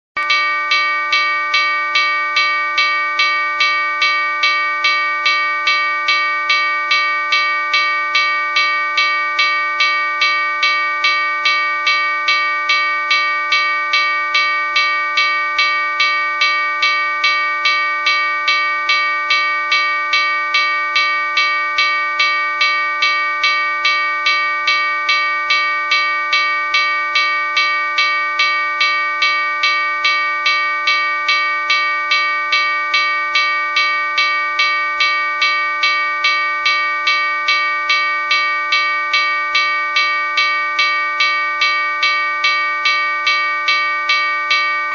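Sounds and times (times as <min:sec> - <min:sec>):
locomotive bell ringing: 0:00.2 - 0:44.9.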